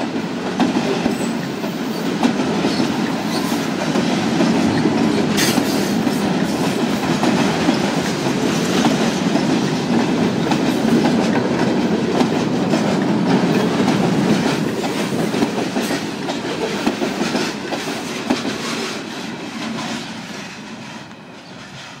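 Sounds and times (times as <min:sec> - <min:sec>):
low train rumble: 0:00.0 - 0:22.0
train wheels clickety-clack: 0:00.0 - 0:22.0.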